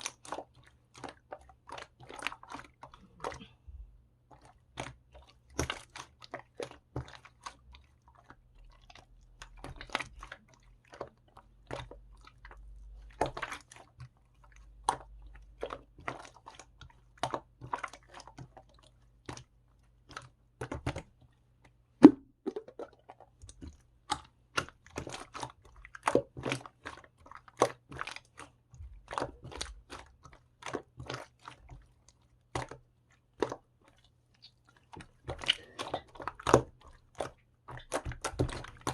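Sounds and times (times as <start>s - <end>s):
person chewing crunchy food: 0.0s - 21.1s, 22.0s - 38.9s.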